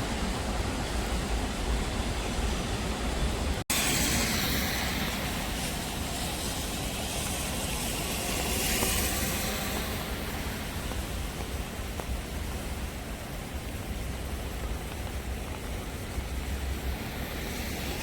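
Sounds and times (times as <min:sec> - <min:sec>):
rain hissing: 0:00.0 - 0:18.0
rushing stream water: 0:00.0 - 0:18.0
traffic on wet roads: 0:00.0 - 0:18.0.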